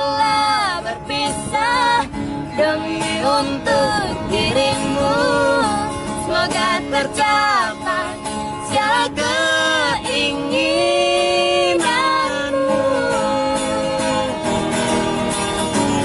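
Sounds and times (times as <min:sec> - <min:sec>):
guitar accompaniment: 0:00.0 - 0:16.0.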